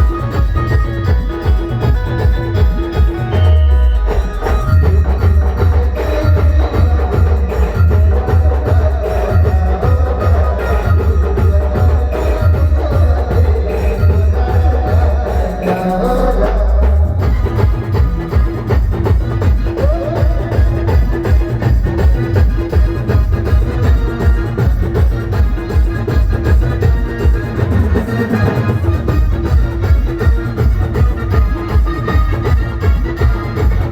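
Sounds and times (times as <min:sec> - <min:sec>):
band playing: 0:00.0 - 0:33.9
heavy drum beat: 0:00.0 - 0:33.9.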